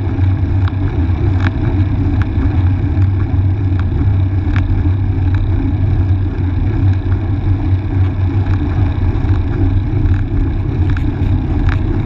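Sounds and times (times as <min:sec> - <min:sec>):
wind and road rumble: 0:00.0 - 0:12.0.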